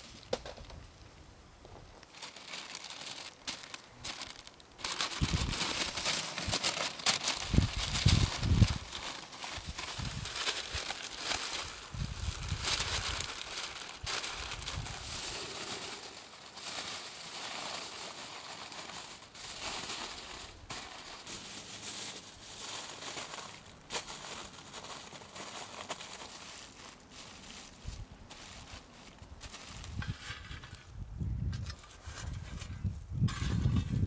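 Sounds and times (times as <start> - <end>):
foil and paper crinkling: 2.0 - 30.8.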